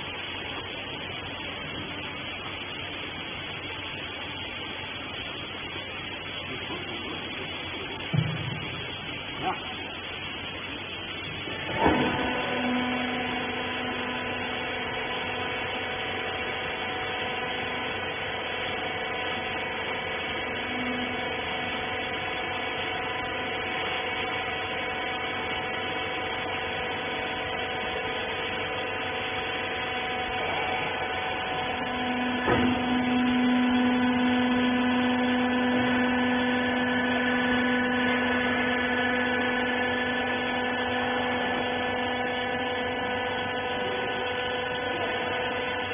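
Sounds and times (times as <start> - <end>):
baler motor and pump humming: 0.0 - 45.9.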